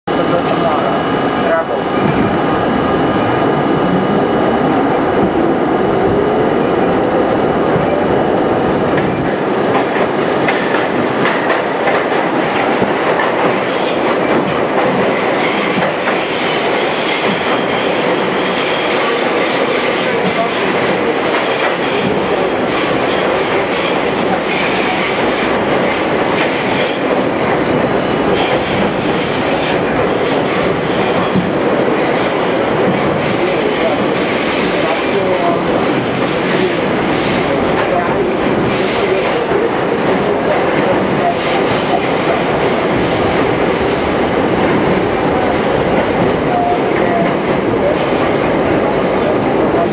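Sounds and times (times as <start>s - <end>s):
subway wheels rumbling on rail: 0.1s - 49.9s
rail joint clicks: 6.8s - 49.9s.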